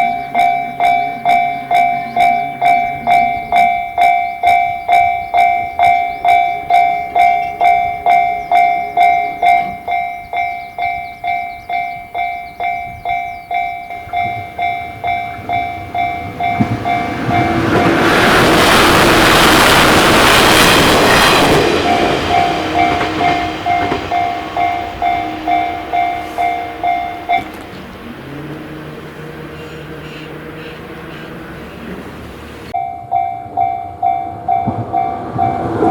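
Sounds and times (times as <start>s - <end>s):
level-crossing alarm bell: 0.0s - 31.4s, 32.7s - 35.9s
electric train passing: 0.0s - 35.9s.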